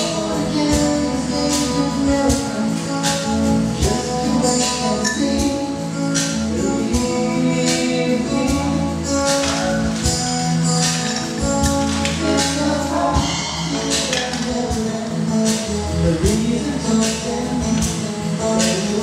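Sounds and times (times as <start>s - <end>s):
acoustic guitar: 0.0s - 19.0s
bass guitar: 0.0s - 19.0s
hand percussion: 0.0s - 19.0s.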